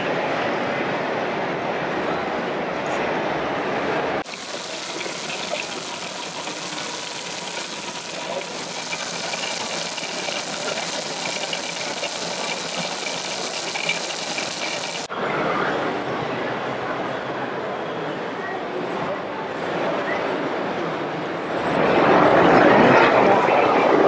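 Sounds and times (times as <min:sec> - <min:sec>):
crowd hubbub: 0:00.0 - 0:24.0.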